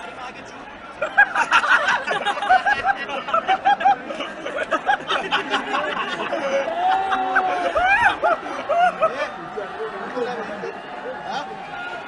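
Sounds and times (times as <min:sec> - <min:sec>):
spectators shouting and laughing: 0:00.0 - 0:12.0.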